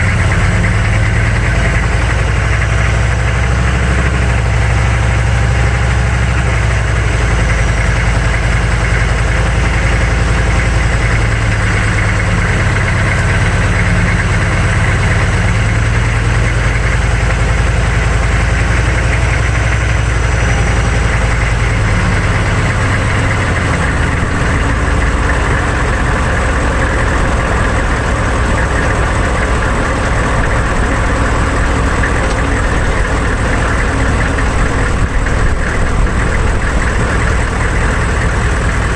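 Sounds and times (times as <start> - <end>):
diesel truck engine running: 0.0 - 38.9
tyre and road noise: 0.0 - 38.9.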